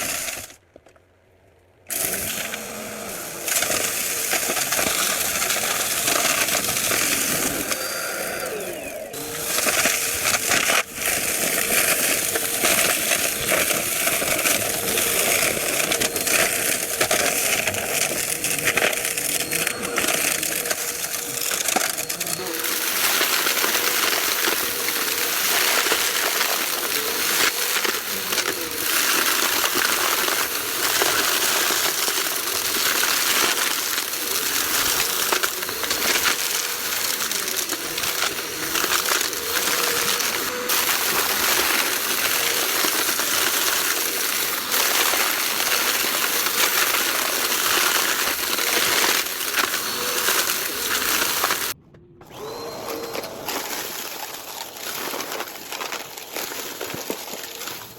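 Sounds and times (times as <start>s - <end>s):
debris crackling in vacuum: 0.0s - 0.6s, 1.9s - 57.9s
vacuum cleaner running: 1.9s - 57.9s.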